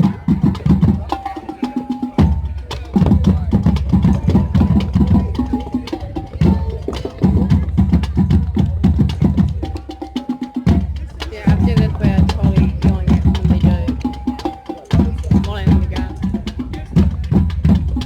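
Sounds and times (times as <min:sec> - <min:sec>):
loud drums beating: 0:00.0 - 0:18.0
marching band music: 0:00.0 - 0:18.0.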